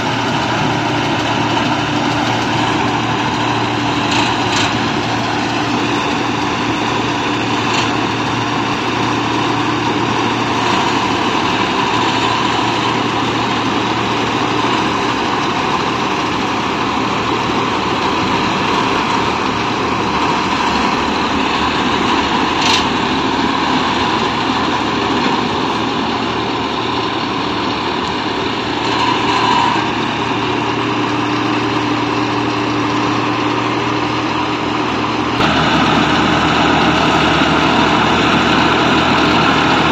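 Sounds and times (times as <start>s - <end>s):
combine harvester machinery drone: 0.0s - 39.9s.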